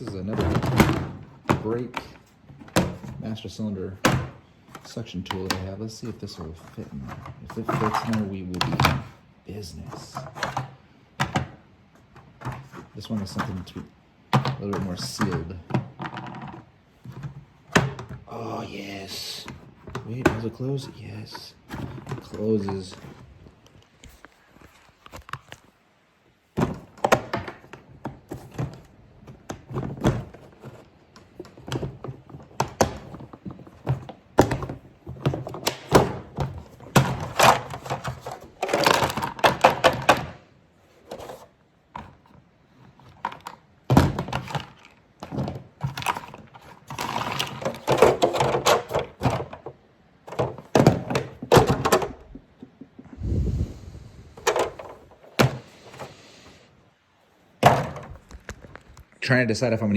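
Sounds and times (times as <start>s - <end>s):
hand tools clattering in plastic case: 0.0s - 3.2s, 4.0s - 9.2s, 9.8s - 11.6s, 12.2s - 18.2s, 19.1s - 23.3s, 26.6s - 53.2s, 54.3s - 56.2s, 57.6s - 58.9s.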